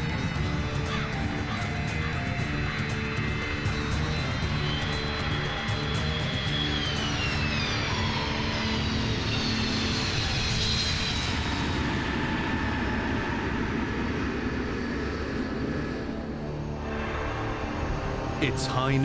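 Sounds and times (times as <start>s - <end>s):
jet engines winding down: 0.0s - 19.0s.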